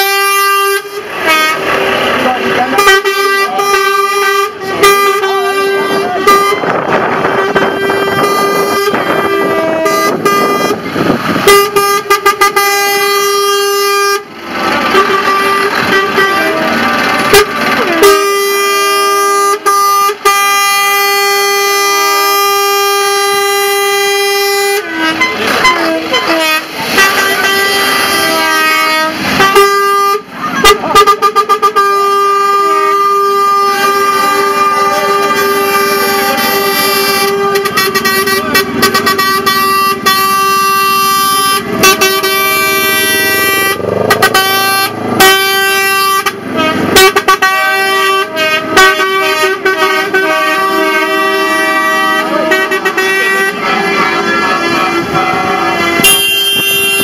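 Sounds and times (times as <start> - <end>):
truck air horns blasting: 0.0 - 57.0.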